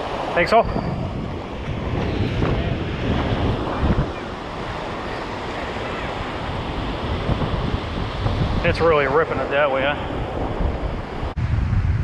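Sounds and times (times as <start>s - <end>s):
surf breaking on a beach: 0.0s - 12.0s
wind buffeting the microphone: 0.0s - 12.0s.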